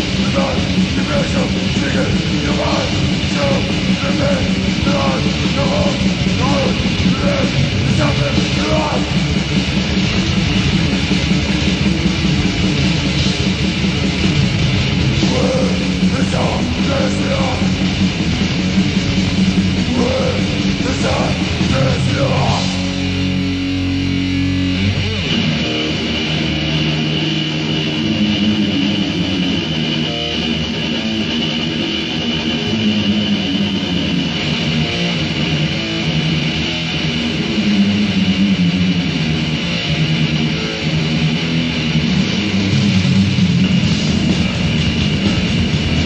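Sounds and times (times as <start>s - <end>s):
bass guitar: 0.0s - 46.0s
distorted electric guitar riffs: 0.0s - 46.0s.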